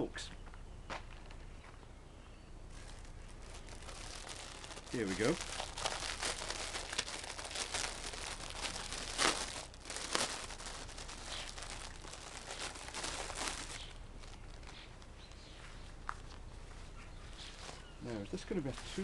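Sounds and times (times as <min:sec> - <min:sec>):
diffuser fabric crinkling: 0:02.7 - 0:19.0.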